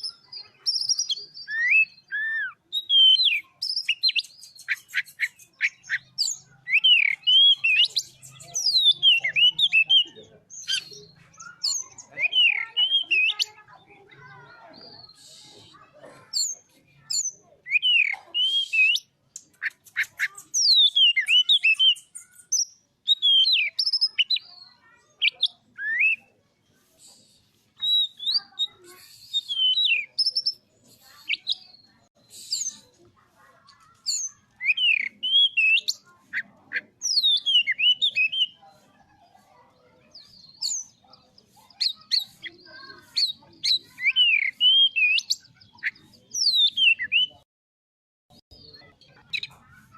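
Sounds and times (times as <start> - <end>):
magpie-robin singing whistled phrases: 0.0 - 15.7, 16.4 - 26.3, 27.0 - 33.0, 33.6 - 38.6, 40.1 - 47.4, 48.5 - 49.6.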